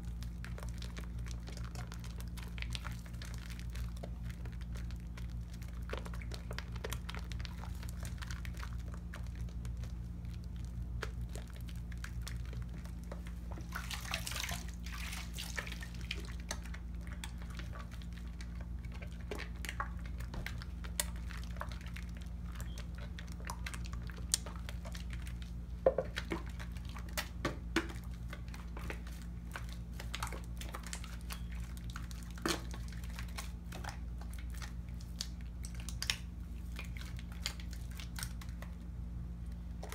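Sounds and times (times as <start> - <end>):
soap lathering wet squishing: 0.0 - 39.9
steady low hum: 0.0 - 39.9.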